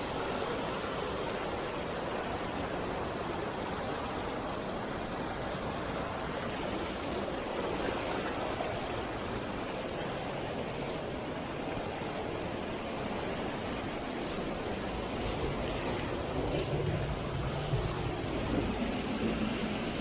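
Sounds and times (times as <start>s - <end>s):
water rushing from waterfall: 0.0s - 20.0s.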